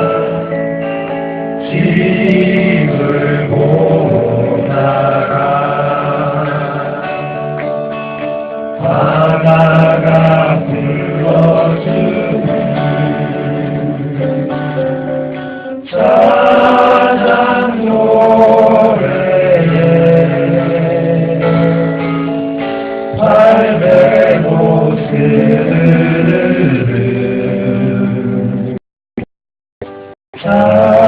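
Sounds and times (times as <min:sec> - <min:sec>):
voices singing in harmony: 0:00.0 - 0:08.0, 0:08.7 - 0:22.4, 0:23.1 - 0:28.8, 0:30.4 - 0:31.0
acoustic guitar: 0:00.0 - 0:28.8, 0:29.8 - 0:31.0.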